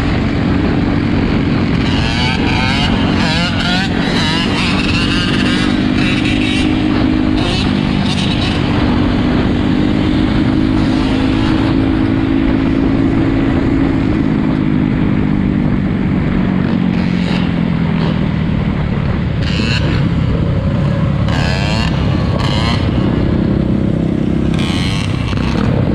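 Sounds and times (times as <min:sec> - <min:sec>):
four-wheeler engines running: 0:00.0 - 0:25.9.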